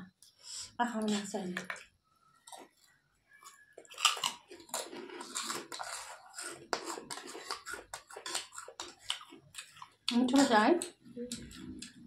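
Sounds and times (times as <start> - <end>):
chewing and crunching food: 1.1 - 12.0.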